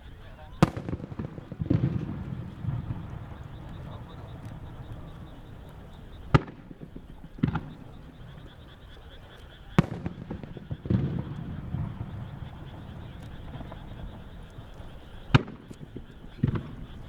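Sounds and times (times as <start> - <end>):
crowd murmur: 0.0 - 17.0
firework crackling: 0.0 - 17.0
firework shells bursting: 0.3 - 17.0.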